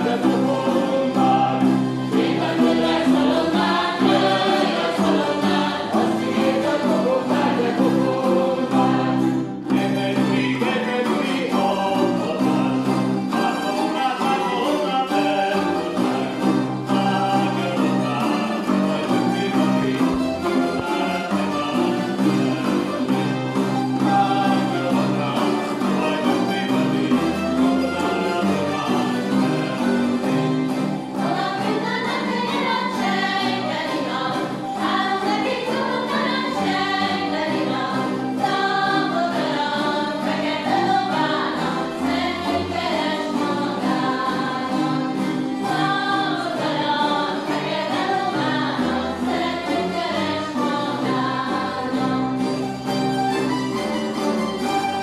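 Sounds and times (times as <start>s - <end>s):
zither ensemble playing folk tune: 0.0s - 55.0s.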